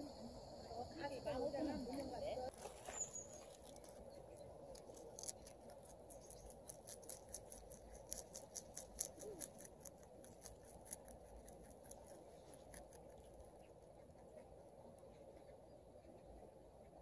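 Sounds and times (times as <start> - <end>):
rabbit chewing leafy greens: 1.6 - 17.0.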